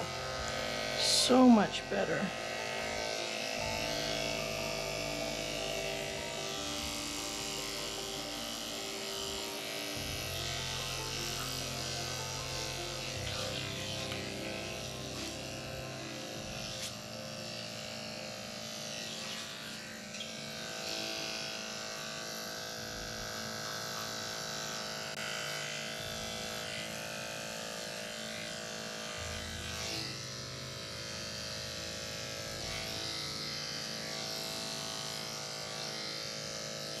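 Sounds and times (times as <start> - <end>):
electric clippers humming: 0.0 - 37.0.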